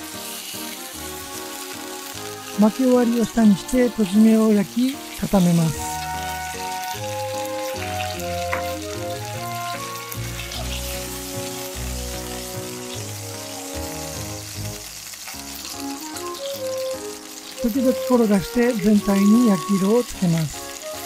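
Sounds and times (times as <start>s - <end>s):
light background music: 0.0s - 21.0s
meat sizzling in hot oil: 0.0s - 21.0s.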